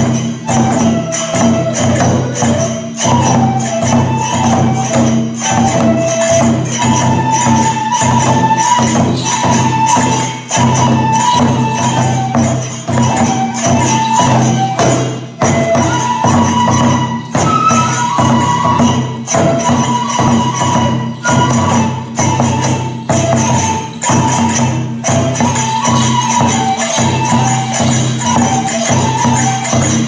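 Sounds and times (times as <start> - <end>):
flute melody: 0.0 - 30.0
hand cymbals jangling: 0.0 - 30.0
taiko drum beating: 0.0 - 30.0.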